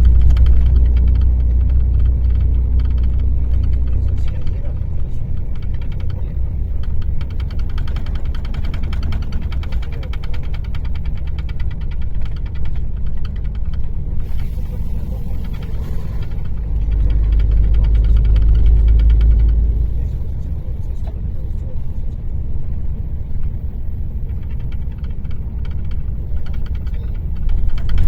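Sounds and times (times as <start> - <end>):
diesel bus engine rumbling: 0.0 - 28.0.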